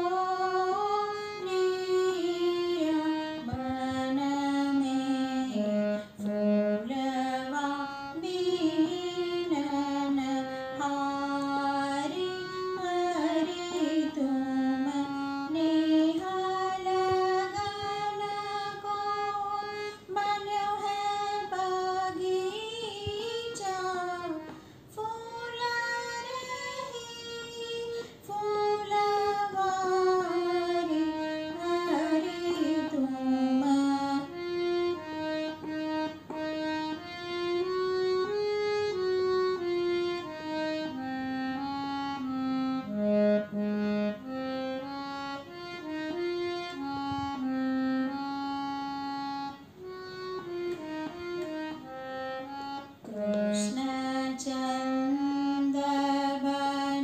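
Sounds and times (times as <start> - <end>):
woman singing devotional song: 0.0 - 48.2, 50.4 - 57.0
harmonium: 0.0 - 57.0.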